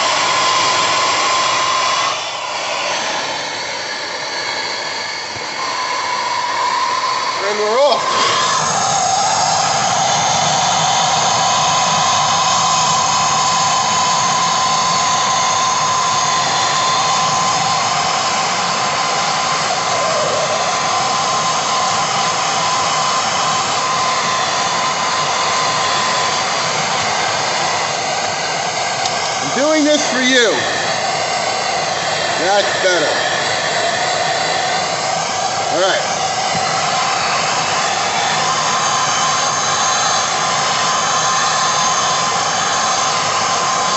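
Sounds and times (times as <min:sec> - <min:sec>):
hand torches hissing: 0:00.0 - 0:43.9.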